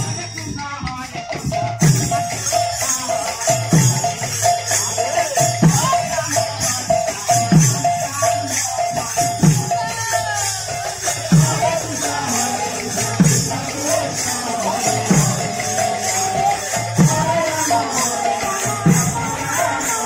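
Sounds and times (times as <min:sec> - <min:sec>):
jingling cymbals: 0:00.0 - 0:20.0.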